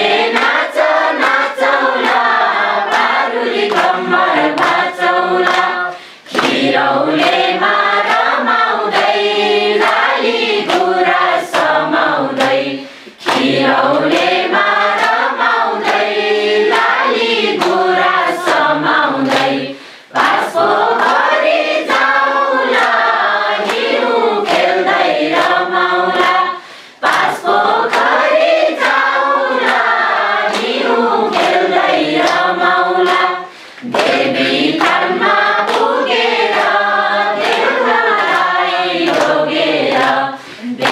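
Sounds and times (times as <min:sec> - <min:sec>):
group of adults singing: 0:00.0 - 0:40.9
people clapping in time: 0:00.0 - 0:40.9.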